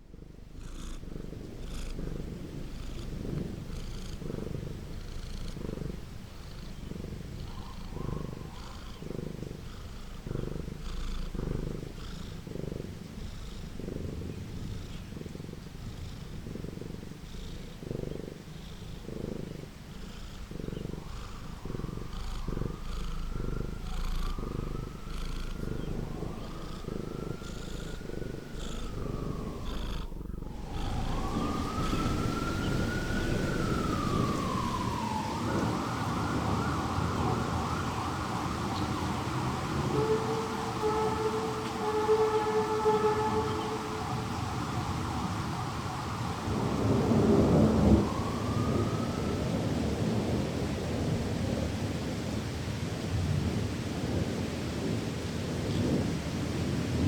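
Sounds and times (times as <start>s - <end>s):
faint gliding whine: 0.0s - 49.6s
cat purring: 0.0s - 51.2s.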